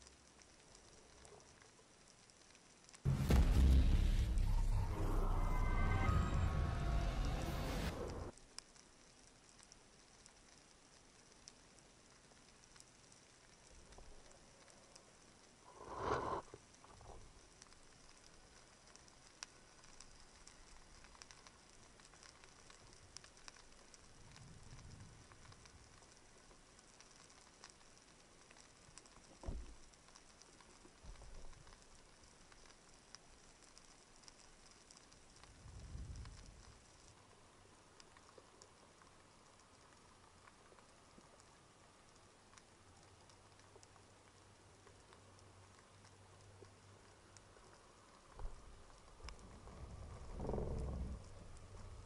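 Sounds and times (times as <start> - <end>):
underwater crackles and clicks: 0.0 - 3.0, 8.1 - 52.0.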